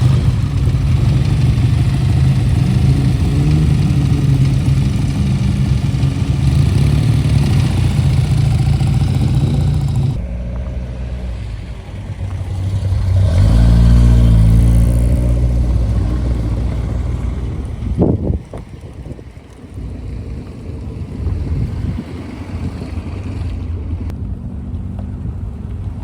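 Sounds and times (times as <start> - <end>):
vehicle engines running: 0.0 - 26.0.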